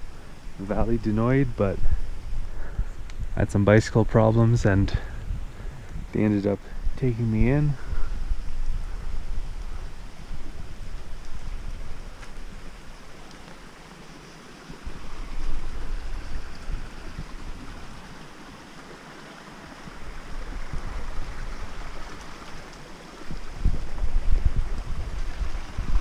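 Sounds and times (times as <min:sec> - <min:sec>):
wind buffeting the microphone: 0:00.0 - 0:13.3, 0:14.7 - 0:18.3, 0:19.8 - 0:26.0.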